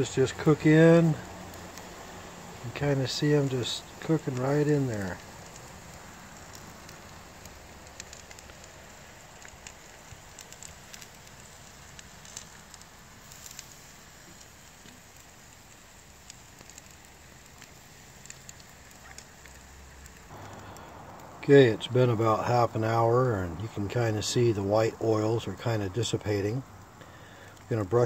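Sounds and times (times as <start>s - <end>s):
small pops and crackles: 0.0s - 24.5s, 25.3s - 28.0s
fish sizzling on a grill: 0.0s - 28.0s.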